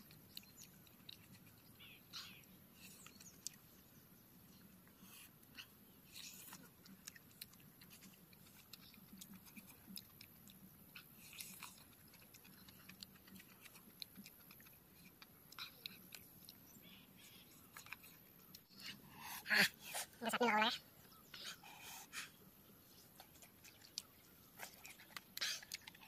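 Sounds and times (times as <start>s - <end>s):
chewing and biting meat: 0.0s - 3.7s, 4.8s - 20.1s, 21.4s - 26.0s.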